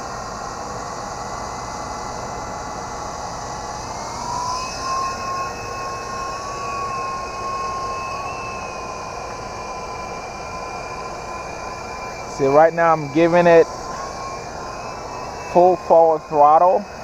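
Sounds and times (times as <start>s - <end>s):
toy helicopter motor whining: 0.0s - 17.0s.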